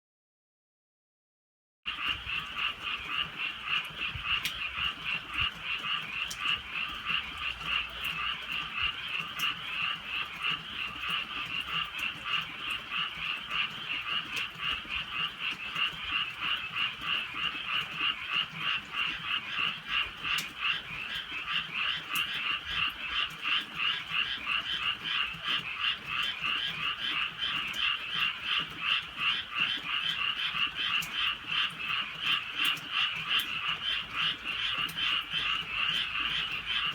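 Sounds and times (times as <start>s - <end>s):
frogs croaking: 1.9s - 36.9s.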